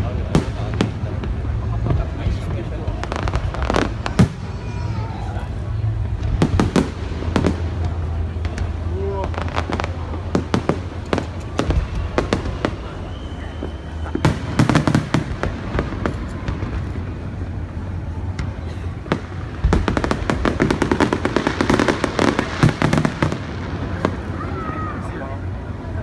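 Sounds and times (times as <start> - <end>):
fireworks bangs and crackling: 0.0 - 25.8.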